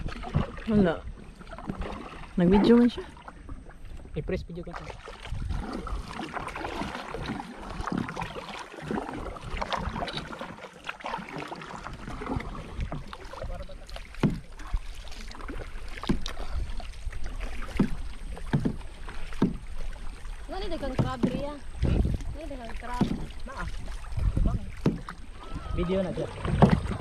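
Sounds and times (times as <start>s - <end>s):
paddle strokes in water: 0.0s - 27.0s
water splashing and dripping: 0.0s - 27.0s.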